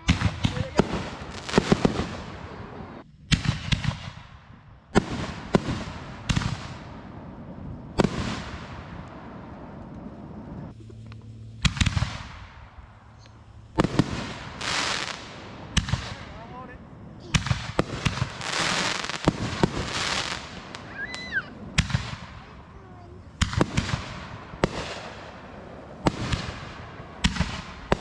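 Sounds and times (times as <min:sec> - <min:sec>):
firework bangs: 0:00.0 - 0:28.0
firework crackling: 0:00.0 - 0:28.0.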